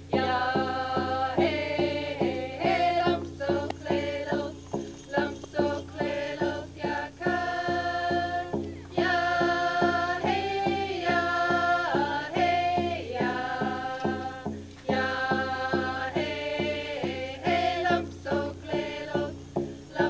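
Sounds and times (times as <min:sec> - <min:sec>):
hand drums beating: 0:00.0 - 0:20.0
voices chanting in unison: 0:00.0 - 0:20.0.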